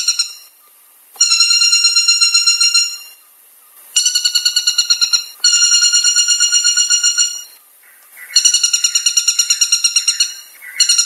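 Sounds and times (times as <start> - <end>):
woodpecker calling: 0.0 - 11.0.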